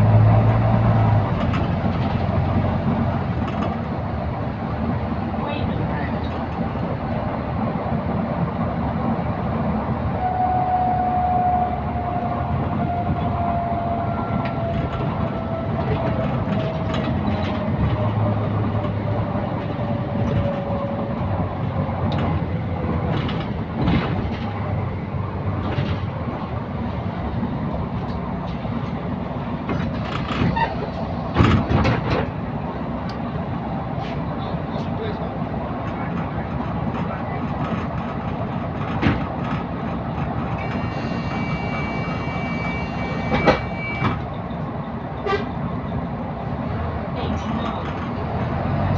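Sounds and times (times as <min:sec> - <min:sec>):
bus interior rumble and whine: 0:00.0 - 0:48.9.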